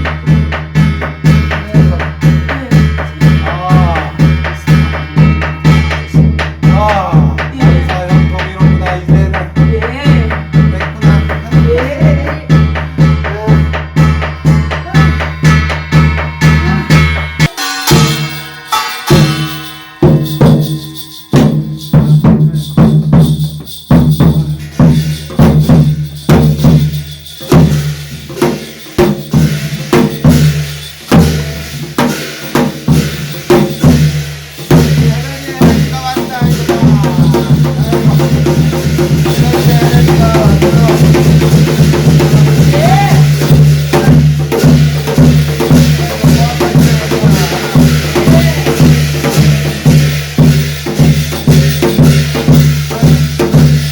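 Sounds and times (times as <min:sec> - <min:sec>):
wavering melody: 0:00.0 - 0:53.5
drums and percussion: 0:00.0 - 0:53.9.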